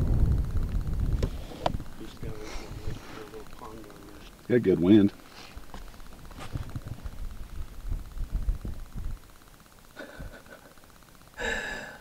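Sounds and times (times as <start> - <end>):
faint steady buzz: 0.0 - 12.0.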